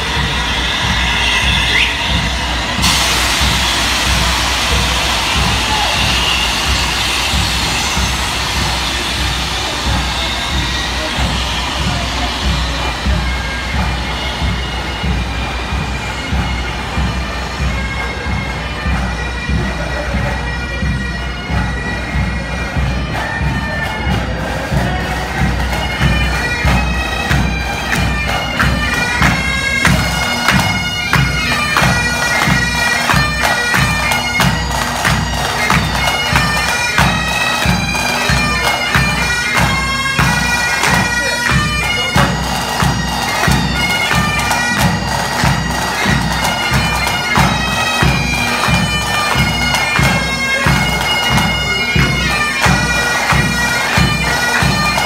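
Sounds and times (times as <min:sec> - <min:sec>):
bagpipes playing melody: 0:00.0 - 0:55.0
bass and snare drums: 0:00.0 - 0:55.0.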